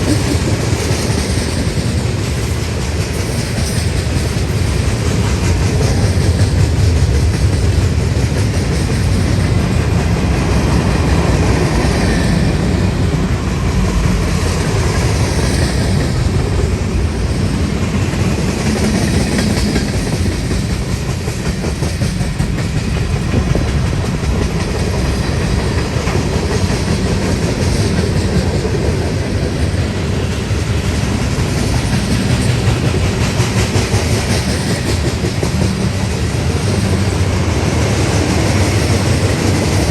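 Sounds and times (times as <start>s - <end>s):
freight train cars rumbling past: 0.0s - 39.9s
wheels clacking over rails: 0.0s - 39.9s.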